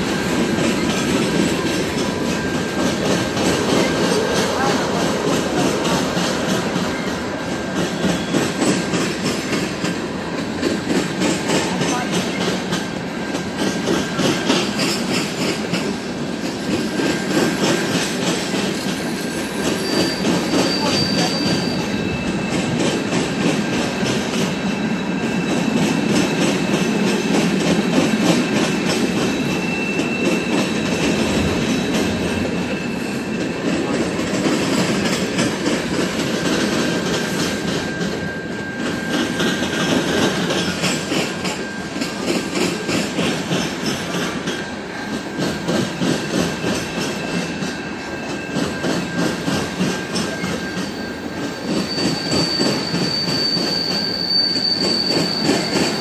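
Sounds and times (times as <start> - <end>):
high wheel squeals: 0.0 - 56.0
train wheels rumbling and clicking: 0.0 - 56.0.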